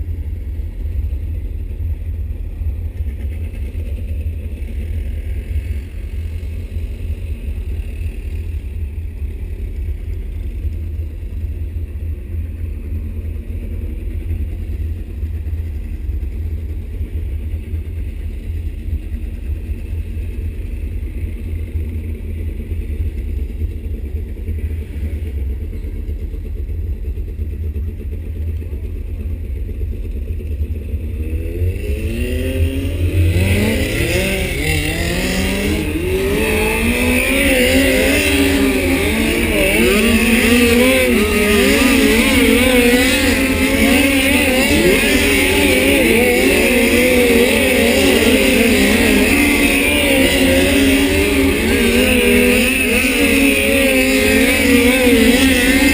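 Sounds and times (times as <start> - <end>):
race car engines: 0.0 - 55.9.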